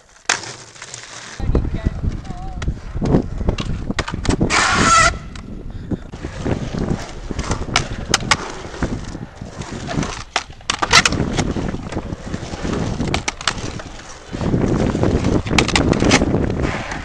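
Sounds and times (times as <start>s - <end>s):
skateboard wheels clacking: 0.0s - 5.5s, 6.1s - 17.0s
skateboard rolling on concrete: 0.0s - 17.0s.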